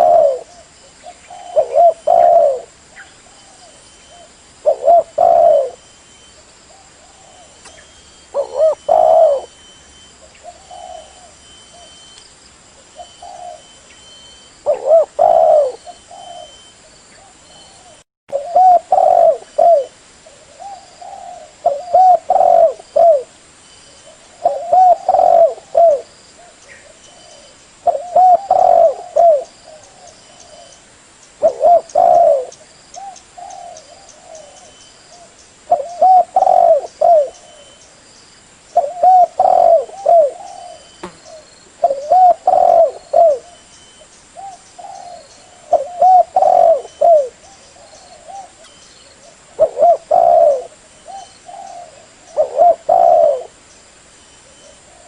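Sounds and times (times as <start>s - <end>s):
dove cooing: 0.0s - 5.8s, 6.7s - 12.0s, 13.0s - 13.8s, 14.6s - 23.3s, 24.0s - 30.8s, 31.4s - 37.8s, 38.8s - 43.7s, 44.4s - 53.6s.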